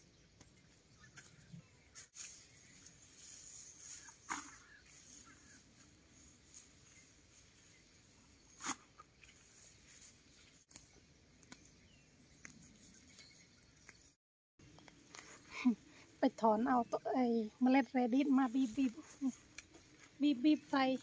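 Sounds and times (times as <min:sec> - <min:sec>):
dry weeds rustling and crackling: 0:01.1 - 0:16.3, 0:17.6 - 0:21.0.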